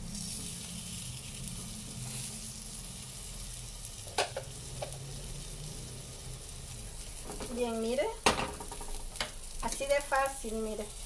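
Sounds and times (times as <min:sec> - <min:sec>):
patty sizzling in hot oil: 0:00.0 - 0:11.0.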